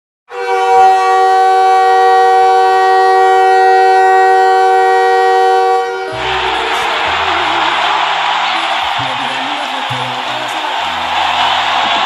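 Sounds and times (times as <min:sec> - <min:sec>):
goal horn blast: 0:00.3 - 0:12.0.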